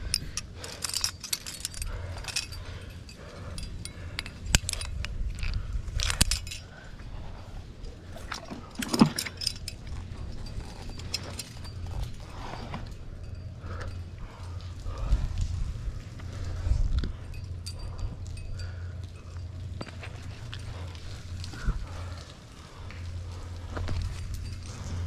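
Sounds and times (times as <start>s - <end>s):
carabiners clinking and jangling: 0.0s - 25.0s.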